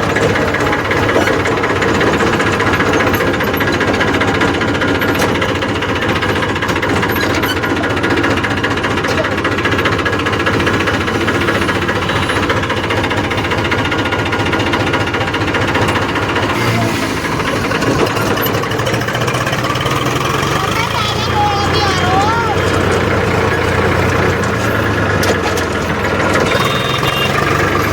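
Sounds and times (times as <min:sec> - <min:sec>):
tractor diesel engine clatter: 0:00.0 - 0:27.9.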